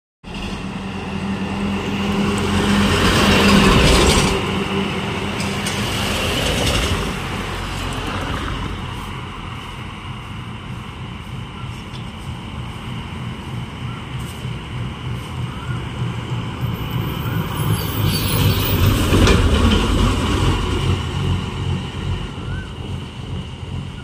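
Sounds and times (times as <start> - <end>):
lorry diesel engine passing: 0.2 - 24.0
passing traffic: 0.2 - 24.0.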